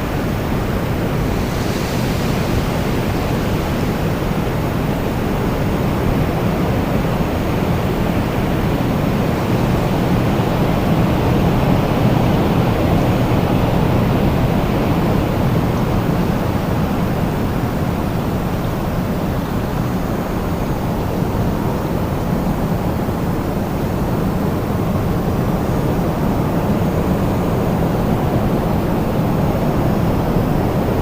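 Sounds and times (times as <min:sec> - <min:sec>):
strong wind blowing: 0:00.0 - 0:31.0.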